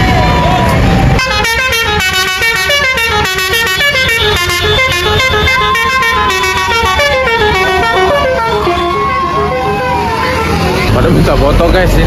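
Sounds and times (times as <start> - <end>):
multi-tone horn melody: 1.2 - 10.9.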